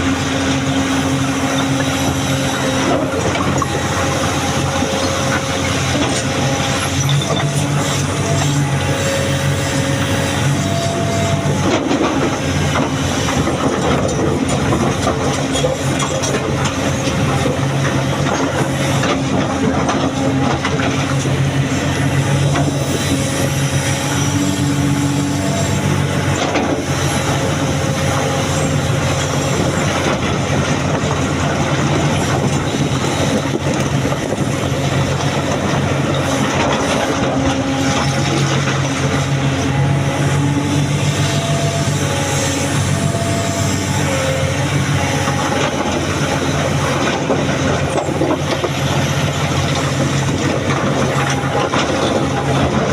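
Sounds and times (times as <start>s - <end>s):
diesel engine running under load: 0.0s - 52.9s.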